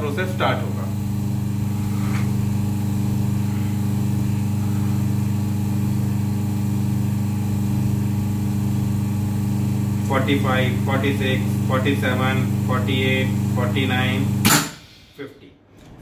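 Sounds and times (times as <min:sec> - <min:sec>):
vacuum pump humming: 0:00.0 - 0:14.9.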